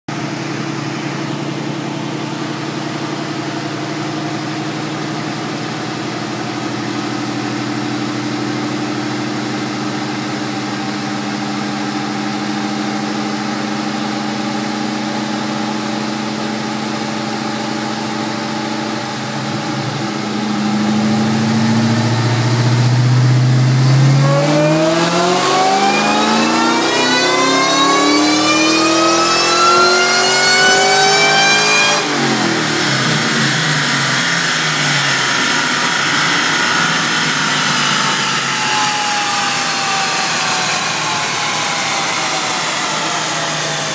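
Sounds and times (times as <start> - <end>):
car engine under load: 0.1 - 43.9.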